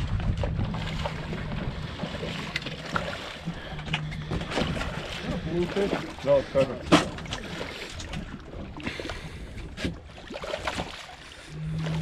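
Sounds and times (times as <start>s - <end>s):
sea water washing against boat: 0.0s - 12.0s.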